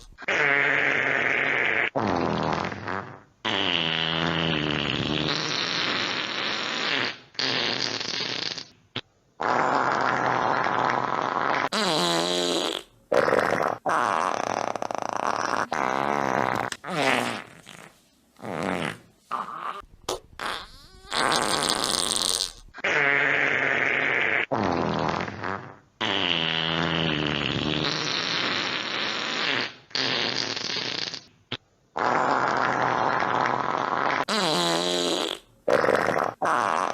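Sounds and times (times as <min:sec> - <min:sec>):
fart sound effects: 0:00.0 - 0:36.9.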